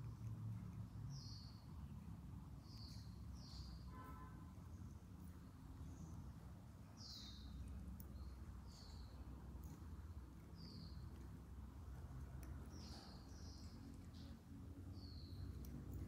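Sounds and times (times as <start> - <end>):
bird chirping: 0.0 - 16.0
low steady hum: 0.0 - 16.0.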